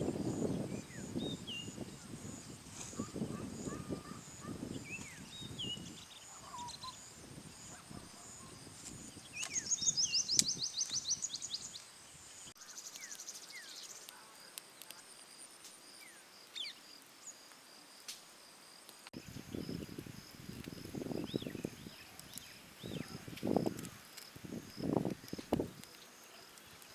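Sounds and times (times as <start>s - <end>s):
insect hum: 0.0s - 26.9s
birds chirping: 0.2s - 14.2s, 19.2s - 26.9s.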